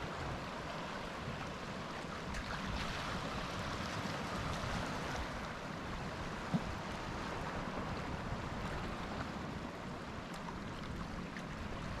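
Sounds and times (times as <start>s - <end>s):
surf washing onto shore: 0.0s - 12.0s.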